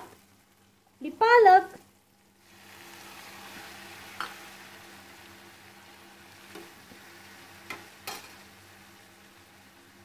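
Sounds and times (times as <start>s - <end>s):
spinach sizzling in hot oil: 0.0s - 10.0s.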